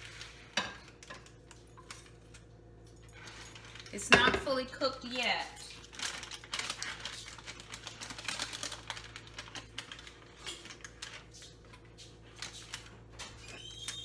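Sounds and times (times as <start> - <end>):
plastic bag crinkling: 0.0 - 1.6, 3.1 - 14.0.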